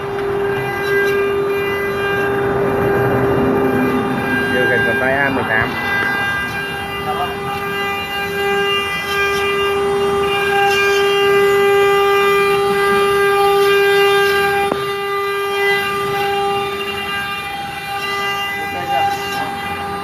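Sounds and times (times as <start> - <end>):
router spindle whining: 0.0 - 20.0.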